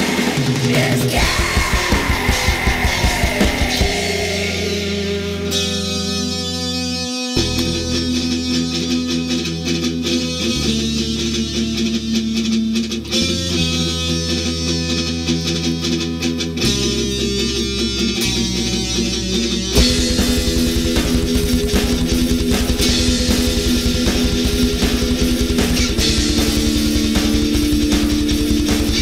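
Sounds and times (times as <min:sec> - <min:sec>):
heavy metal music: 0:00.0 - 0:29.0.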